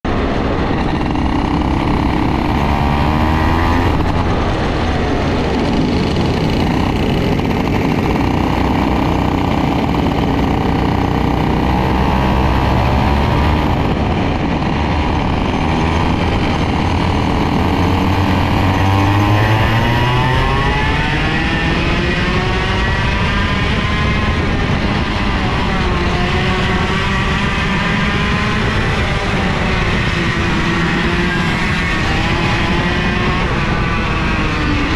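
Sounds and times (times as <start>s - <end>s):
kart engine revving: 0.1s - 34.9s.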